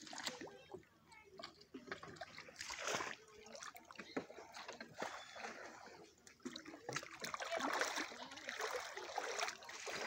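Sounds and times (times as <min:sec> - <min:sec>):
floodwater splashing and sloshing: 0:00.0 - 0:10.0.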